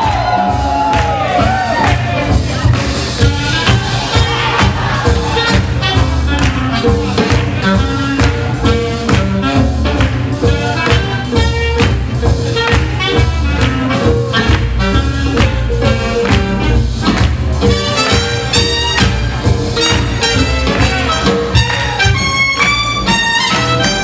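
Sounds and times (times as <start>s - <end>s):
swing jazz band playing: 0.0s - 24.0s.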